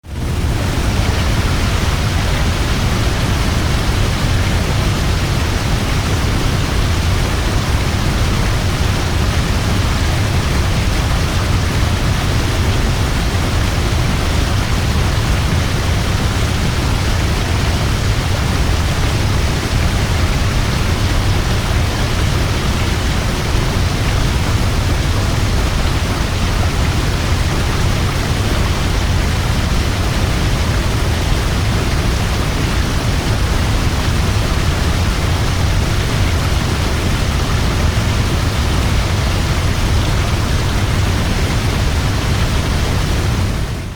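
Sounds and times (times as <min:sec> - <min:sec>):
waterfall roaring: 0:00.1 - 0:43.9.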